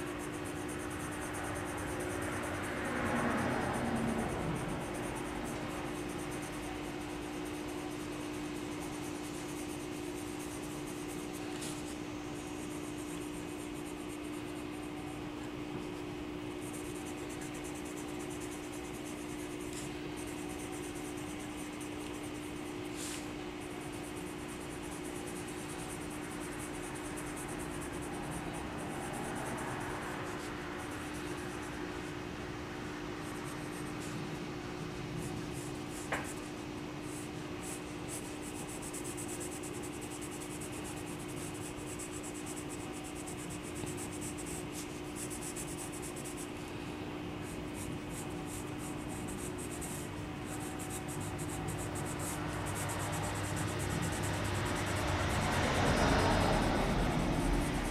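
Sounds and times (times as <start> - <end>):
pencil scratching on paper: 0.0 - 32.2, 33.2 - 34.4, 35.0 - 46.6, 47.4 - 57.9
steady low hum: 0.0 - 57.9.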